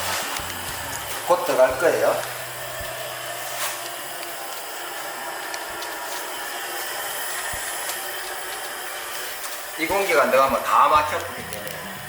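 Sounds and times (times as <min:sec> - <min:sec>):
fire crackling: 0:00.0 - 0:12.0
fire hissing: 0:00.0 - 0:12.0.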